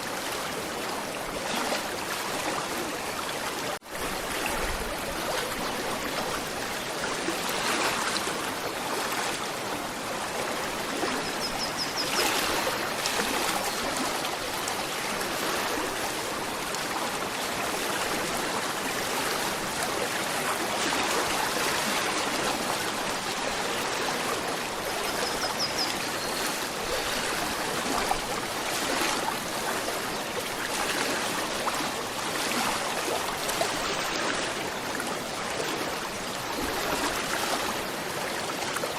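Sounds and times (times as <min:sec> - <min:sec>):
river water babbling: 0:00.0 - 0:38.9.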